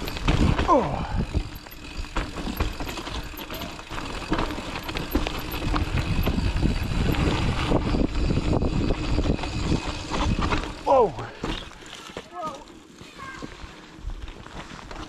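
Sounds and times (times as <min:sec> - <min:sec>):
bike rattling over bumps: 0:00.0 - 0:15.0
bike tyres on dirt and rock: 0:00.0 - 0:15.0.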